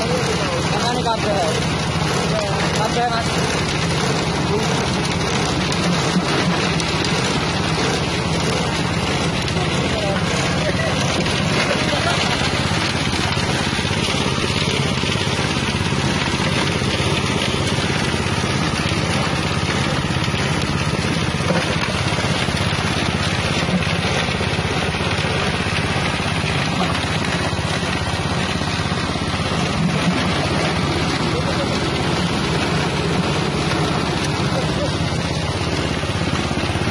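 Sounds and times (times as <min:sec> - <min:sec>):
grinding mill engine running: 0:00.0 - 0:36.9
small knocks from mill: 0:02.0 - 0:36.9.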